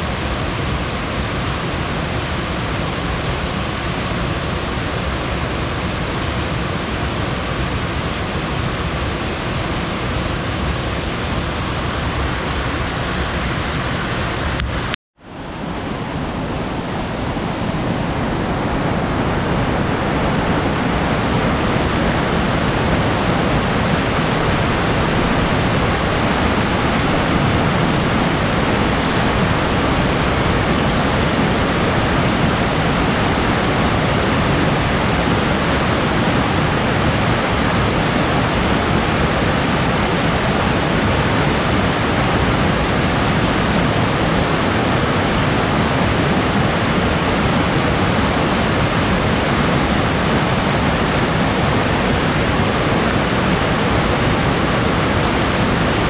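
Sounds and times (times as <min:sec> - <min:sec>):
mountain stream rushing over rocks: 0:00.0 - 0:56.0.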